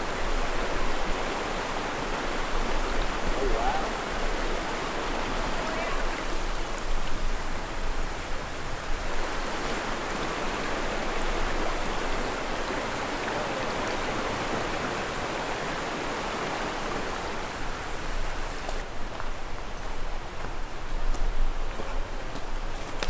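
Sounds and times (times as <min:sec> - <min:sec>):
rushing creek water: 0:00.0 - 0:23.0.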